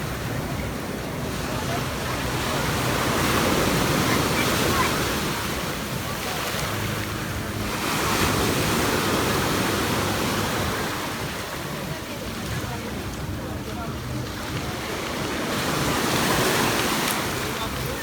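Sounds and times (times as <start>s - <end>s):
rough sea waves breaking: 0.0s - 18.0s.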